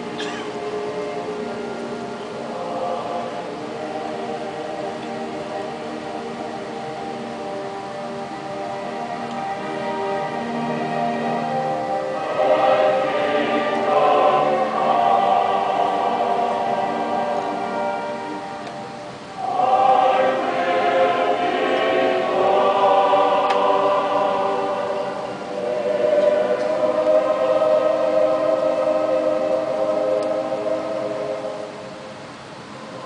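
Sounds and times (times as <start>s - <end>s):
choir singing held chords: 0.0s - 33.0s.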